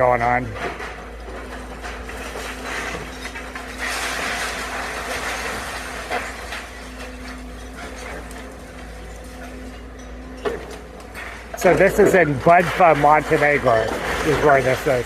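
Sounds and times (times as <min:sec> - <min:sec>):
bulldozer engine running: 0:00.0 - 0:15.0
debris crunching and clattering: 0:00.0 - 0:15.0.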